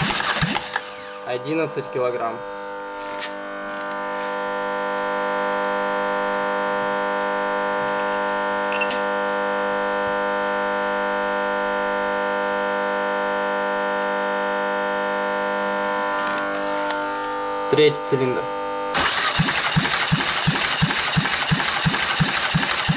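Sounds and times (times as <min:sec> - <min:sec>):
electric motor whining: 0:00.0 - 0:17.8, 0:18.5 - 0:22.2.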